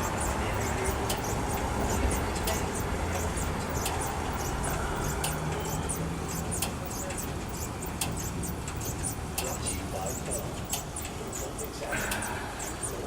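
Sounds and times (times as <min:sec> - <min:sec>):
faint high clicks: 0:00.0 - 0:13.0
vehicle engine rumble: 0:00.0 - 0:13.0.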